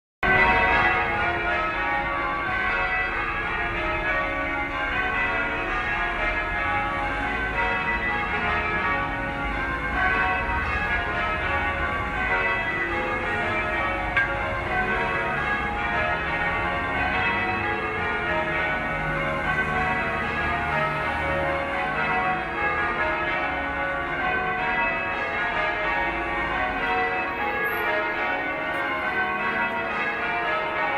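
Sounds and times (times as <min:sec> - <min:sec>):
church bells ringing a peal: 0:00.2 - 0:30.9.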